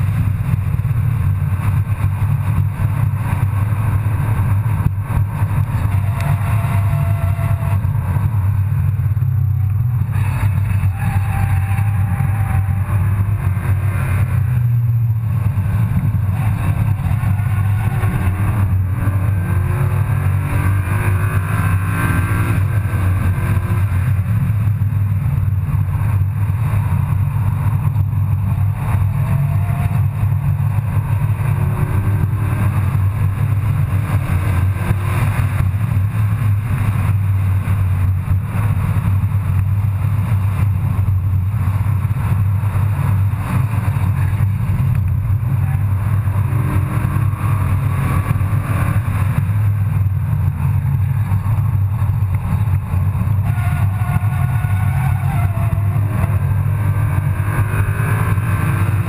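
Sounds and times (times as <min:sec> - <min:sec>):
car engine accelerating: 0:00.0 - 0:59.0
road noise inside car: 0:00.0 - 0:59.0.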